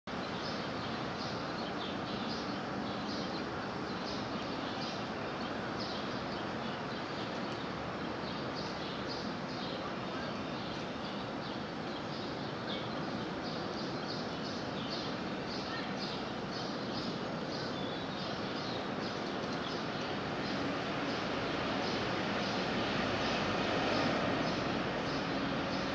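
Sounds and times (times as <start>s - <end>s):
small birds chirping: 0.1s - 25.9s.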